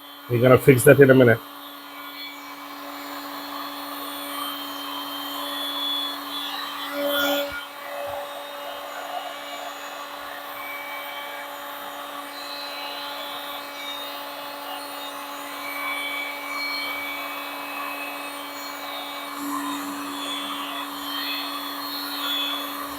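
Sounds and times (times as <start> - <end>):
heat gun fan whirring: 0.0 - 22.9.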